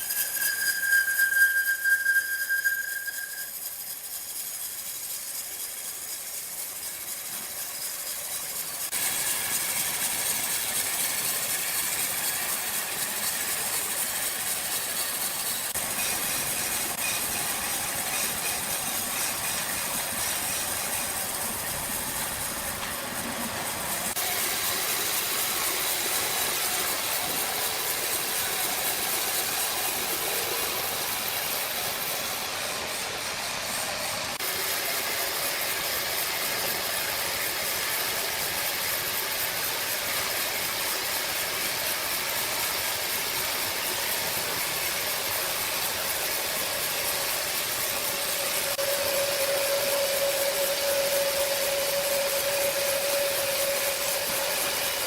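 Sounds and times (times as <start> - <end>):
sawmill machinery hissing: 0.0 - 55.0.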